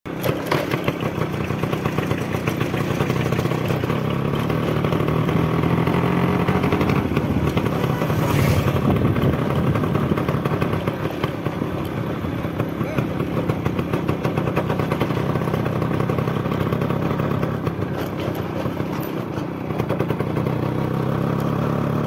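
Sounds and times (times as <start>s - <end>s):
motorcycle engine running: 0.1s - 22.0s.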